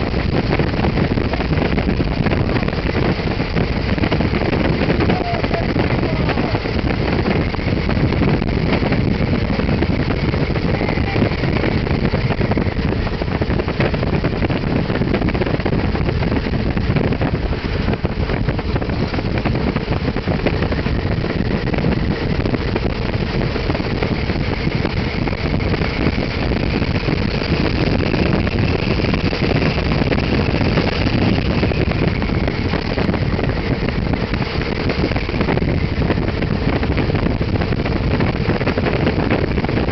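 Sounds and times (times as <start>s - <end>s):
biplane engine running: 0.0s - 39.9s
loud rushing noise: 0.0s - 39.9s.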